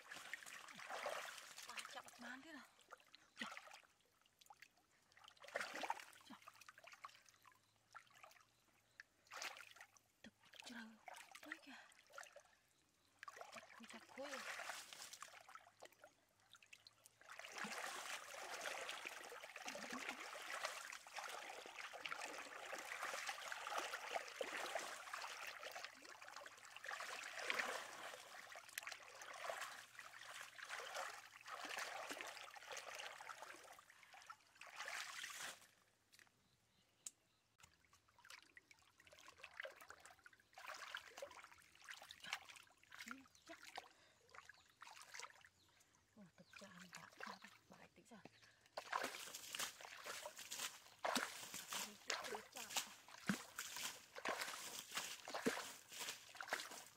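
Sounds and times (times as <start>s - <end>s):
muddy water sloshing: 0.0s - 36.3s, 37.6s - 56.9s
small water splashes: 0.0s - 36.3s, 37.5s - 56.9s.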